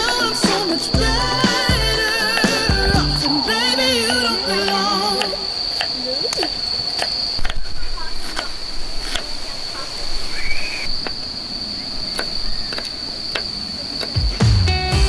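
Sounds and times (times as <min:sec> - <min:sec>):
insect trilling: 0:00.0 - 0:09.2, 0:10.2 - 0:14.4.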